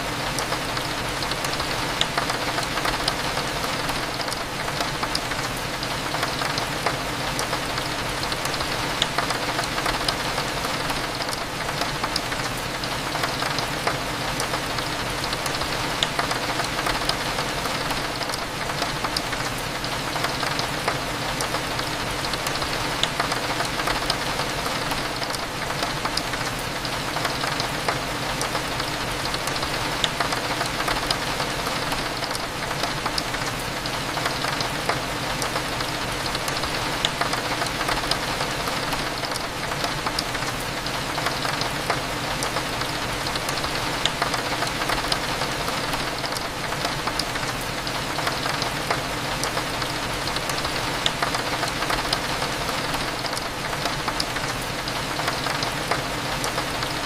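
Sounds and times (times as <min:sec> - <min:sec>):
rain hitting a window: 0:00.0 - 0:57.0.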